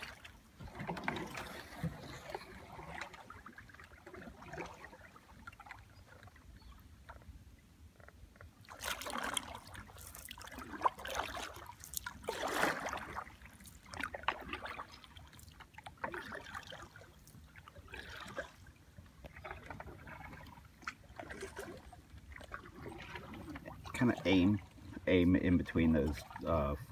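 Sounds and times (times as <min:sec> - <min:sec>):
kayak paddle splashing: 0:00.0 - 0:26.9
water trickling off paddle: 0:00.0 - 0:26.9.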